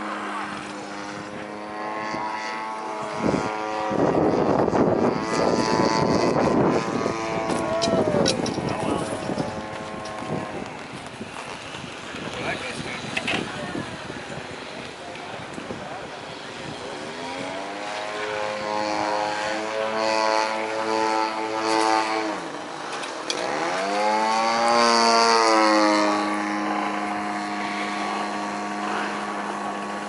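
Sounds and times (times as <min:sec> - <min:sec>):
model airplane engine and propeller: 0:00.0 - 0:30.0.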